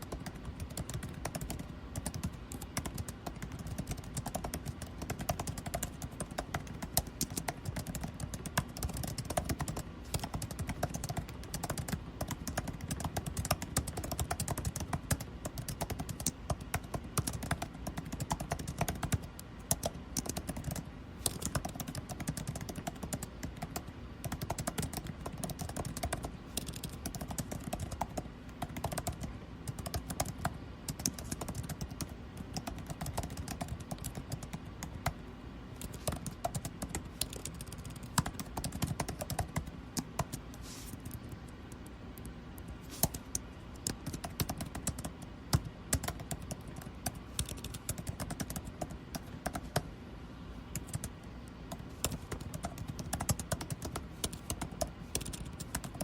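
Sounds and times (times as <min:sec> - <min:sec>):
computer keyboard typing: 0:00.0 - 0:35.2, 0:35.8 - 0:49.9, 0:50.7 - 0:56.0
air conditioning hum: 0:00.0 - 0:56.0.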